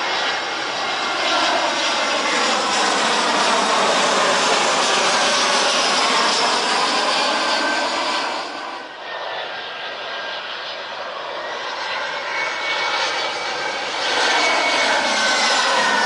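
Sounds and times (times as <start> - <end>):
jet engines on landing approach: 0.0 - 16.0.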